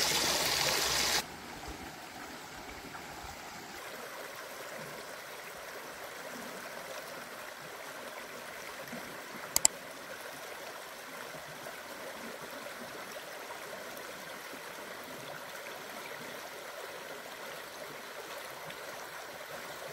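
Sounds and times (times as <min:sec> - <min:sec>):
stream running over rocks: 0:00.0 - 0:19.9.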